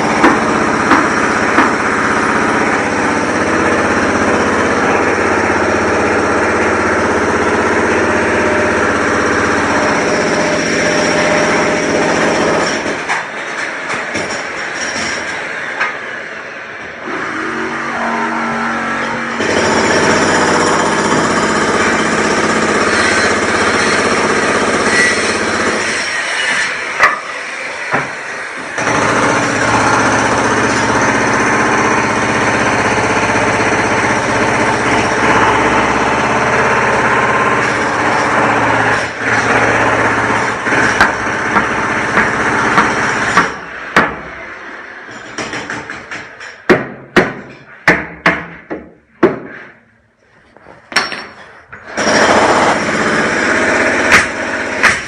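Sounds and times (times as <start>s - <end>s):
construction machinery running: 0.0s - 46.4s, 50.3s - 55.0s.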